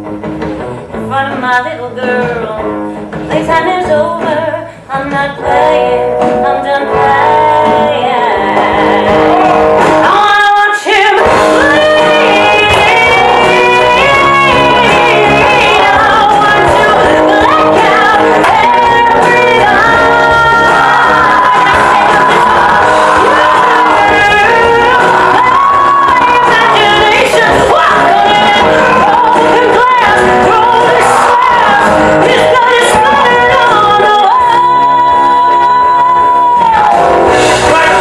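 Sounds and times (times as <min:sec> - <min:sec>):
live rock band playing: 0:00.0 - 0:38.0
person singing: 0:01.0 - 0:38.0.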